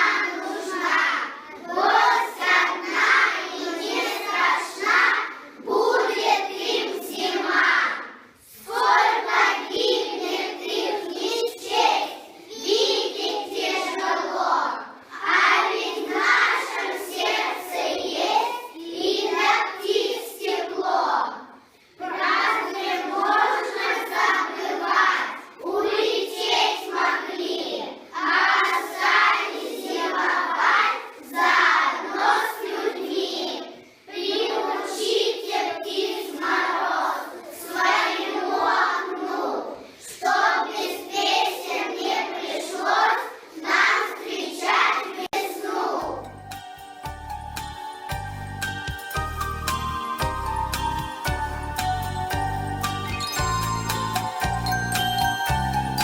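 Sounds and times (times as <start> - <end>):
children singing: 0.0 - 56.0.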